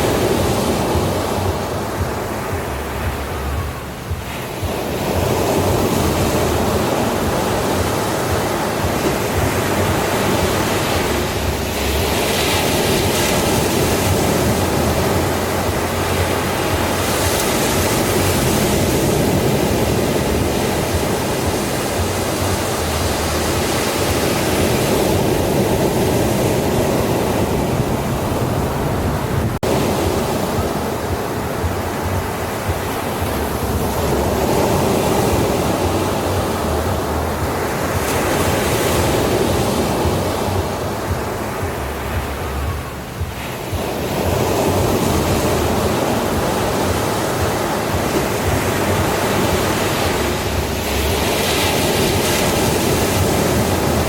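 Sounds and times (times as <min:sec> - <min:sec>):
ocean surf on beach: 0:00.0 - 0:54.0.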